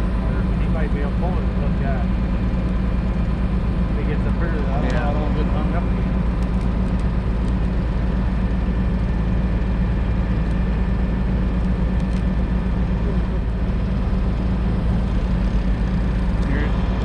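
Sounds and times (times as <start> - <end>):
heavy truck engine droning: 0.0 - 17.0.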